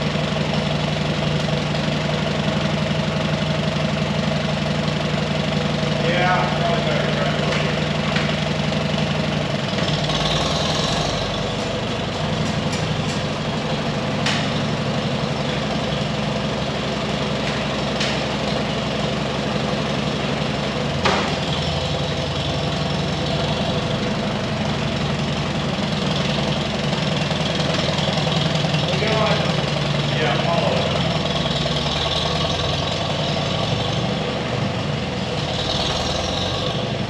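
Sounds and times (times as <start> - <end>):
farm machinery engine running: 0.0 - 37.0.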